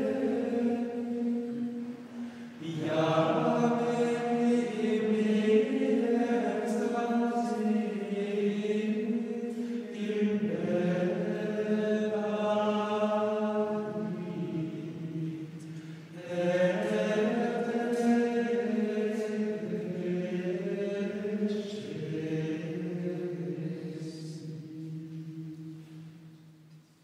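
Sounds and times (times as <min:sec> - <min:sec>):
male voices chanting in unison: 0:00.0 - 0:25.8.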